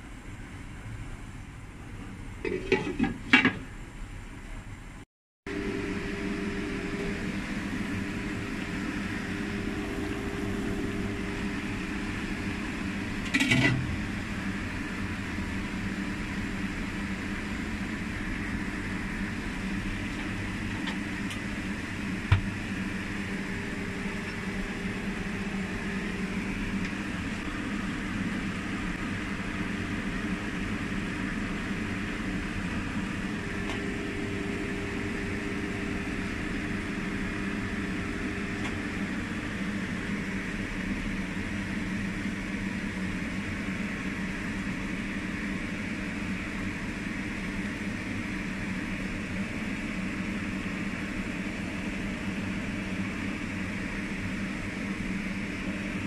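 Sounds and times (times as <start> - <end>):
mechanical hum: 0.0 - 56.0.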